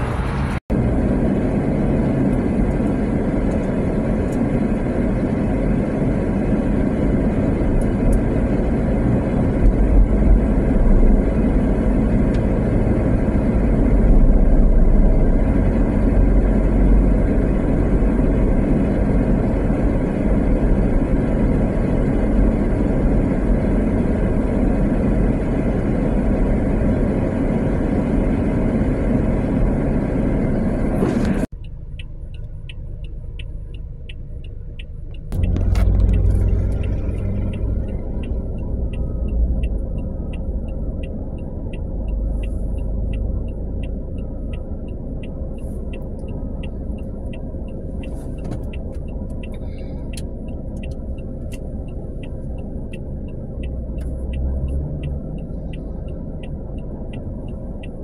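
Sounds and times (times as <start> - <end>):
road and engine rumble inside vehicle: 0.0 - 58.0.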